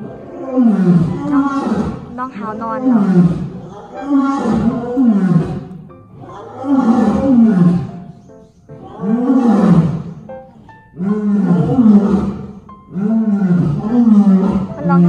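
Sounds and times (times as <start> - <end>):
big cat roaring: 0.0 - 2.2, 2.8 - 8.1, 8.8 - 15.0.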